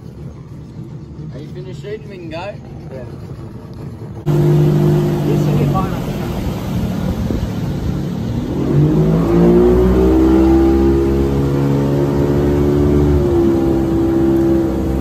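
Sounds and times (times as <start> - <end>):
outboard motor throttling up: 0.0 - 15.0.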